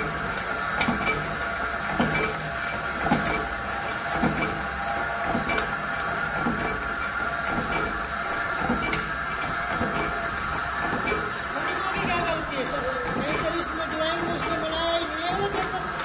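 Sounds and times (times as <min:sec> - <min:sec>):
hydraulic pump motor hum: 0:00.0 - 0:16.0
press punching metal: 0:00.0 - 0:16.0.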